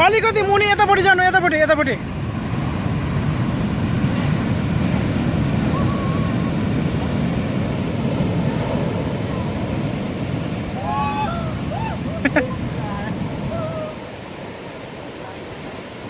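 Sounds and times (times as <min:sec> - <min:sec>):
surf breaking on shore: 0:00.0 - 0:16.0.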